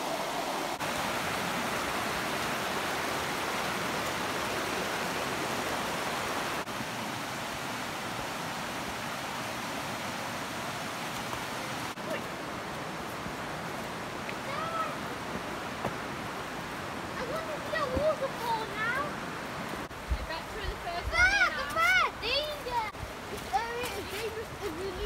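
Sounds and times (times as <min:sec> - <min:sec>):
river water rushing over rocks: 0:00.0 - 0:25.0.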